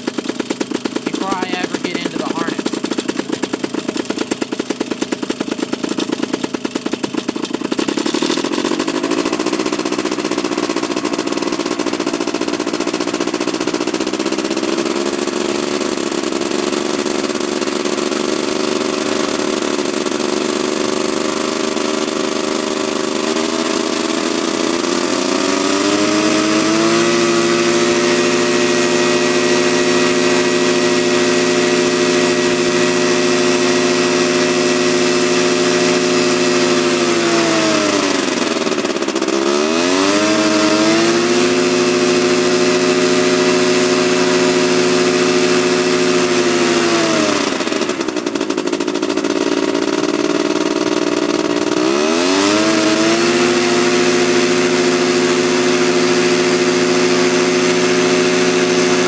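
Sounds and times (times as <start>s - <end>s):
paramotor engine and propeller: 0.0s - 59.0s.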